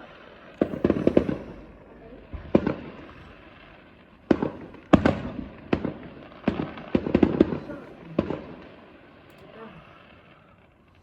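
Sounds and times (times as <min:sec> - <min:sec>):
fireworks bangs: 0:00.0 - 0:09.3.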